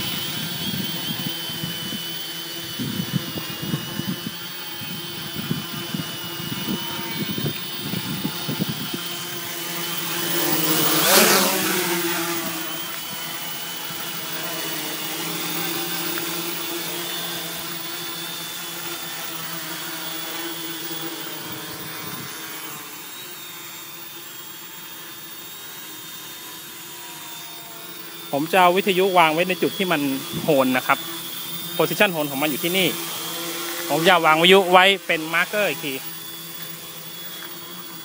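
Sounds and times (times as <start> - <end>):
quadcopter hovering hum: 0.0 - 38.0.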